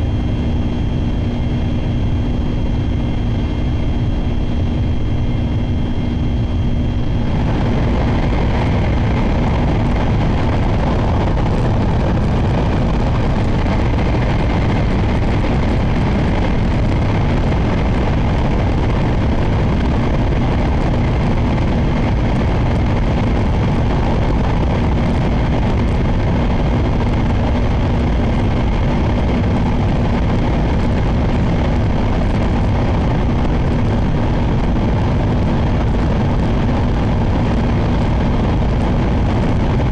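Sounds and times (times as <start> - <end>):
low hum: 0.0 - 39.9
train rumbling at speed: 3.8 - 39.9.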